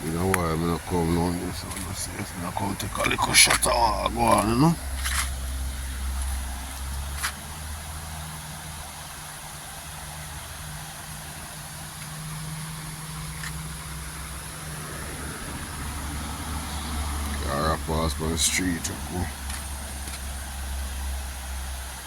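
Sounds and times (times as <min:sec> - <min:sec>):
car passing by: 0:00.0 - 0:21.9
river water flowing: 0:00.0 - 0:22.0.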